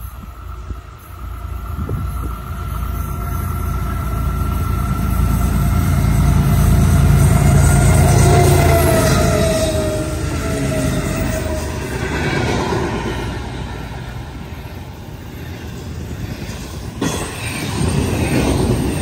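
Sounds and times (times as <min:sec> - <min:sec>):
steady high tone: 0:00.0 - 0:16.1
diesel locomotive engine rumble: 0:00.0 - 0:19.0.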